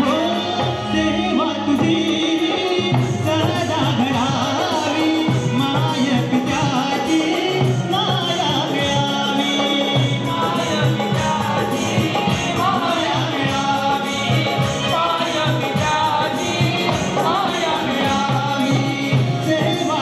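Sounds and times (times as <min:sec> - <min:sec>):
hand drum rhythm: 0:00.0 - 0:20.0
man singing ornamented melody: 0:00.0 - 0:20.0.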